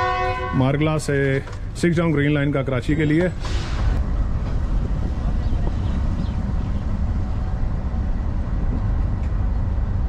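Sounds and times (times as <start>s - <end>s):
passenger train rumbling: 0.0s - 10.0s.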